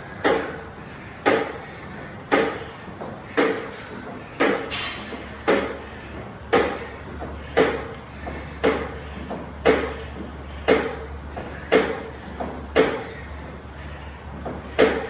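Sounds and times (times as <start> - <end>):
elliptical trainer clicking: 0.0 - 15.0.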